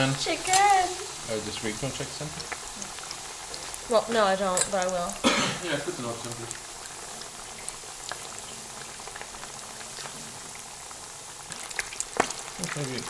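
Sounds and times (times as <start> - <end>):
chicken deep-frying in oil: 0.0 - 13.0
small crackles: 0.2 - 5.2, 6.0 - 13.0.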